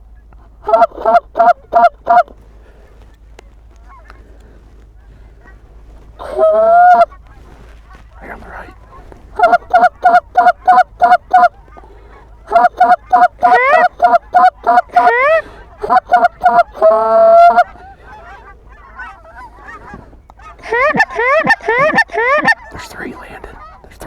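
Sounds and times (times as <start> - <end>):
faint goose honks: 0.0 - 24.0
goose call clucks and honks: 0.1 - 24.0.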